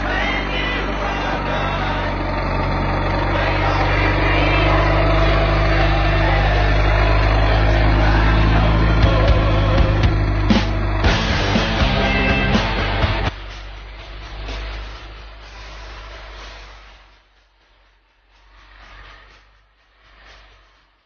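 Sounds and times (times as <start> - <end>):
tractor engine running: 0.0 - 20.7.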